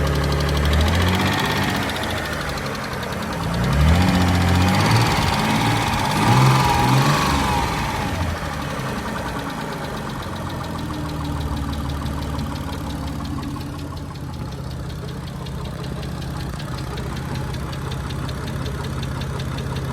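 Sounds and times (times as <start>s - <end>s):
car engine idling with ticking: 0.0s - 19.9s.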